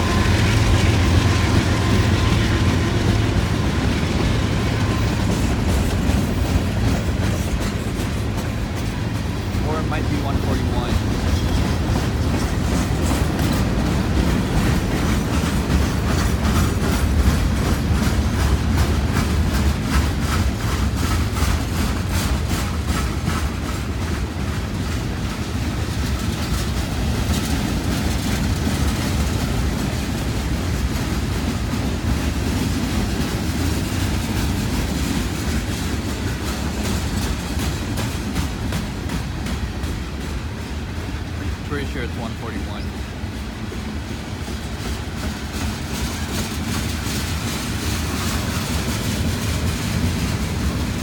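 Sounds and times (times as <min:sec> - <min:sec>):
wheels clacking over rails: 0:00.0 - 0:42.1, 0:42.7 - 0:51.0
freight train rumbling: 0:00.0 - 0:51.0.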